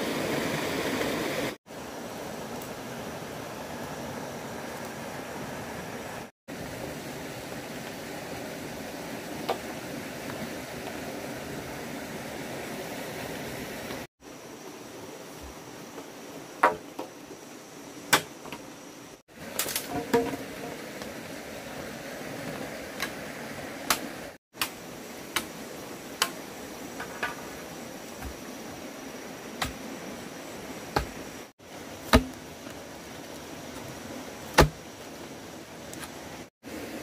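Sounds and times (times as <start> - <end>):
background hiss: 0.0 - 37.0.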